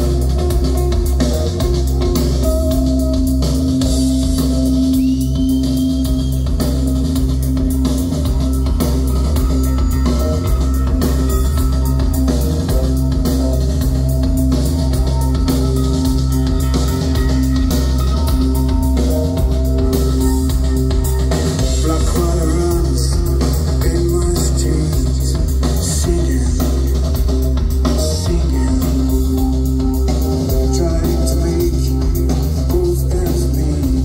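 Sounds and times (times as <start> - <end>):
drum beat: 0.0 - 34.0
electric guitar: 0.0 - 34.0
heavy bass: 0.0 - 34.0.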